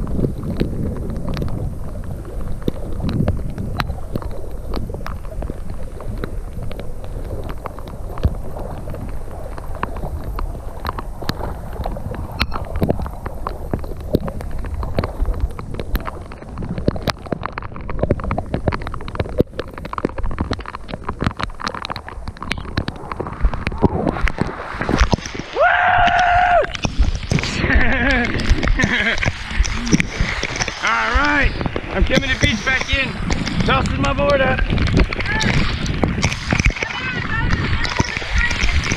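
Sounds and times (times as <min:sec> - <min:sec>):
rain: 0:00.0 - 0:38.9
water sloshing and gurgling: 0:00.0 - 0:38.9
wind on microphone: 0:00.0 - 0:38.9.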